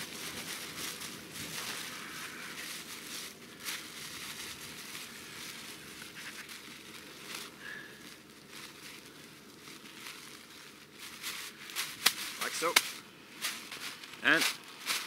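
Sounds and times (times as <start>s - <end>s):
plastic bag crinkling: 0.0s - 15.0s
snow crunching: 0.0s - 15.0s.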